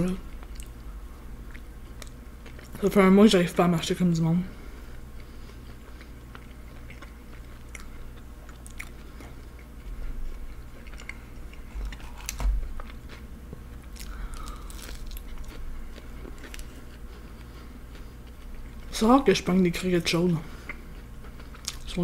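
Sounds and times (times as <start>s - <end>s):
person chewing food: 0.2s - 2.8s, 4.7s - 19.0s, 20.4s - 22.0s.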